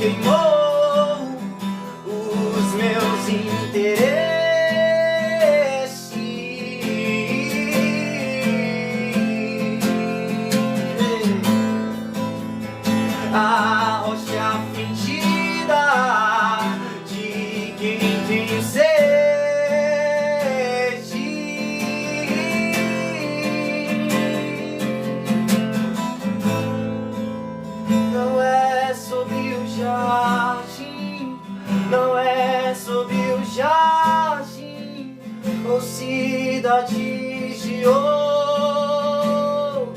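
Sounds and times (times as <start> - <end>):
person singing: 0.0 - 12.0, 12.9 - 25.4, 28.0 - 39.9
acoustic guitar strummed and picked: 0.0 - 39.9.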